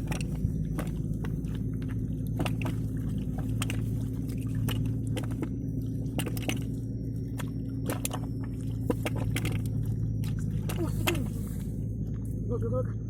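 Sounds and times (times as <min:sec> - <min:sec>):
wet squelching and splashing: 0:00.0 - 0:11.8
low mechanical hum: 0:00.0 - 0:13.0.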